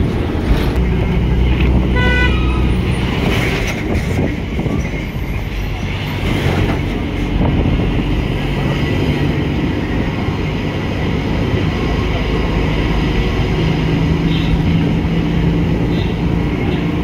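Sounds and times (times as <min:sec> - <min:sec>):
bus engine running: 0:00.0 - 0:17.0
road noise: 0:00.0 - 0:17.0
truck passing close: 0:00.0 - 0:17.0.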